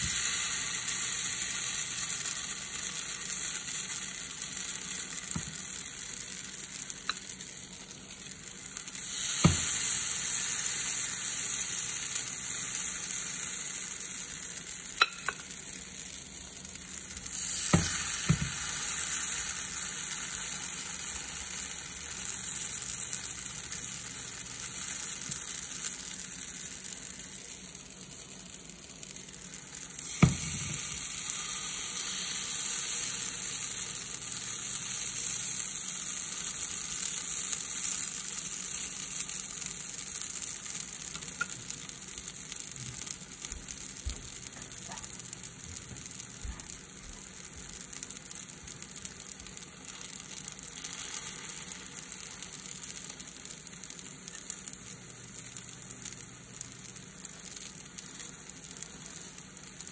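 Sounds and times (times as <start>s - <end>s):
pancakes sizzling in oil: 0.0s - 59.9s.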